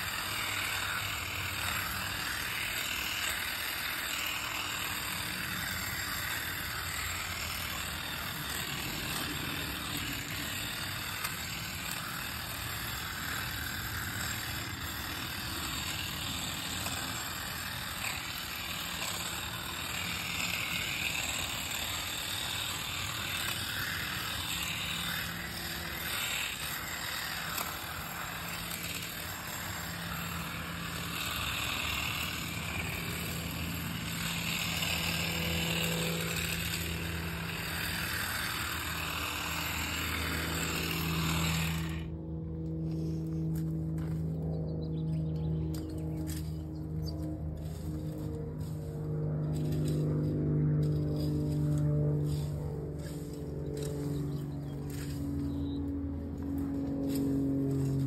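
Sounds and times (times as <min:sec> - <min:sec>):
hedge trimmer cutting bush: 0:00.0 - 0:58.0.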